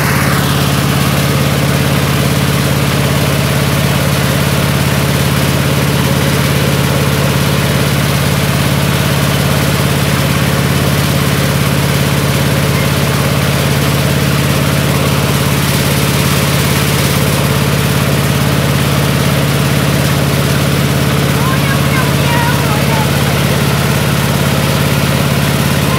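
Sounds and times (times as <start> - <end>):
milling machine engine drone: 0.0 - 25.9.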